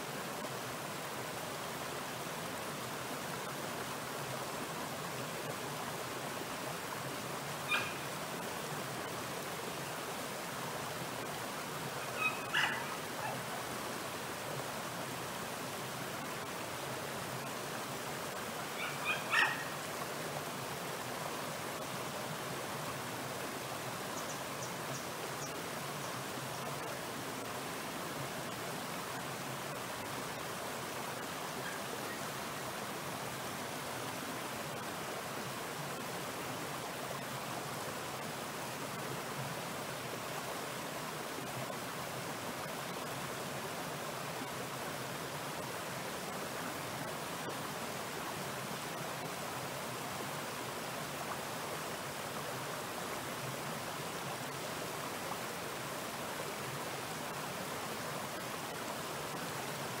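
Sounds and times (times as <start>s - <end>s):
stream water rushing: 0.0s - 60.0s.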